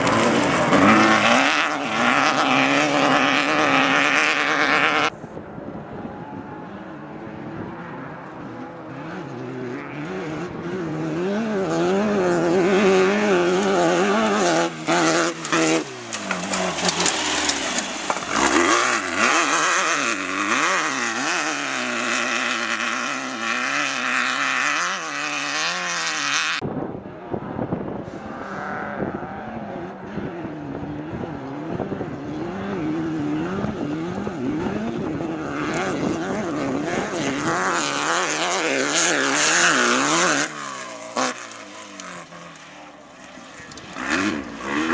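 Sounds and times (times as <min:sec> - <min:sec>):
race car engine revving: 0:00.0 - 0:05.2, 0:06.0 - 0:26.6, 0:27.9 - 0:44.9.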